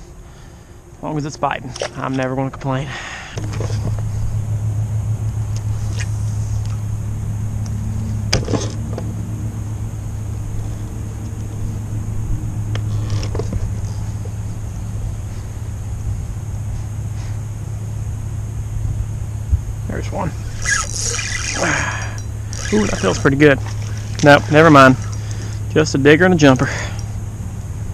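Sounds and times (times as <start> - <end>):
electric motor humming: 3.4 - 27.9.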